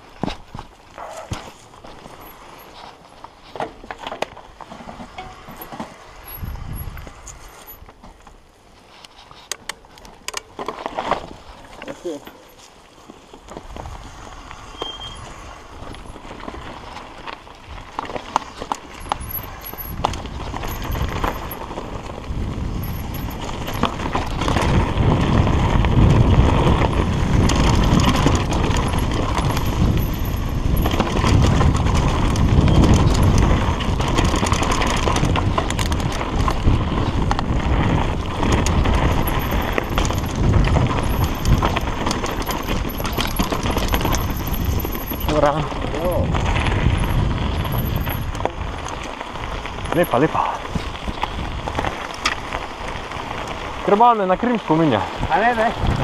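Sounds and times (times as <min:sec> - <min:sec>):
bike clattering and rattling: 0:00.0 - 0:56.0
bike tyres on dirt: 0:00.0 - 0:56.0
wind rumble on microphone: 0:05.0 - 0:07.9, 0:13.5 - 0:56.0.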